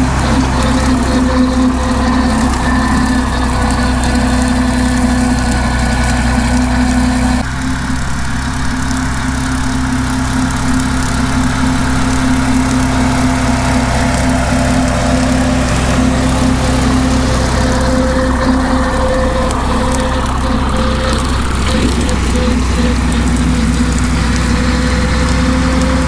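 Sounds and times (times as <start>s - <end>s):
rotary mower cutting dry grass: 0.0s - 26.0s
tractor engine running: 0.0s - 26.0s.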